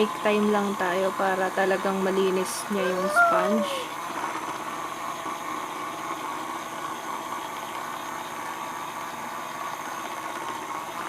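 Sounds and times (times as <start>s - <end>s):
toy washing machine humming: 0.0s - 11.0s.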